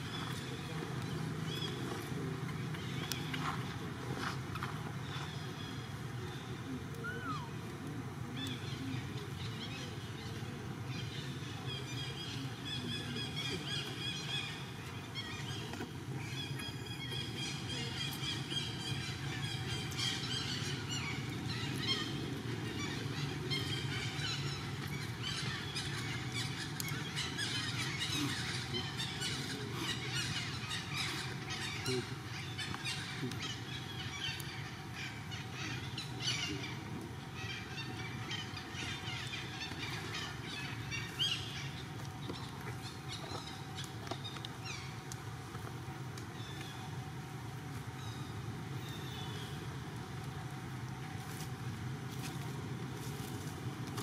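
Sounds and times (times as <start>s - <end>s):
steady outdoor background: 0.0s - 54.0s.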